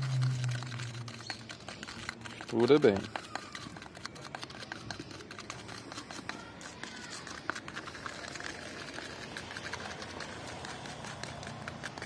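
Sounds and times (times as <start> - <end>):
screwdriver scraping putty in cup: 0.0 - 12.0.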